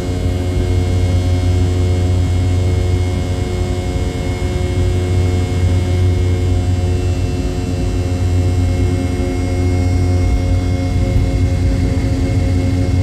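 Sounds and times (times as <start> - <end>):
jet cabin engine drone: 0.0 - 13.0
steady engine whining tones: 0.0 - 13.0.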